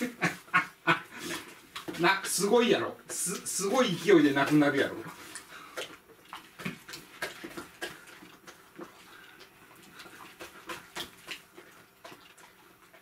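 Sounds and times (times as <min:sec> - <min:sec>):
dog chewing wetly: 0:00.9 - 0:13.0.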